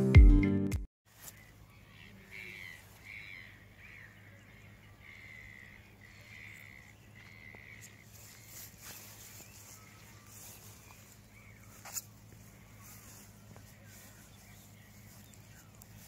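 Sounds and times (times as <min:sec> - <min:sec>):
faint harsh bird calls: 0:01.1 - 0:16.0.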